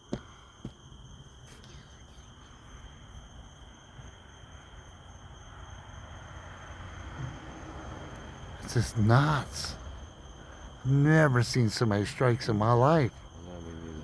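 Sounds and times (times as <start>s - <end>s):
night insects calling: 0.0s - 14.0s.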